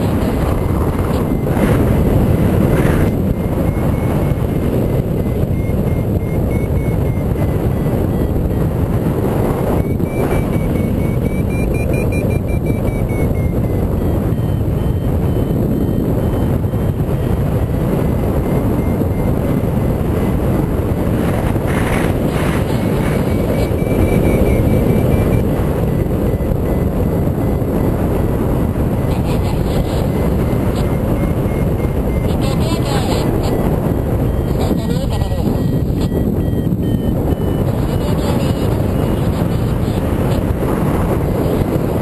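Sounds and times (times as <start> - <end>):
wind rushing over microphone: 0.0 - 42.0.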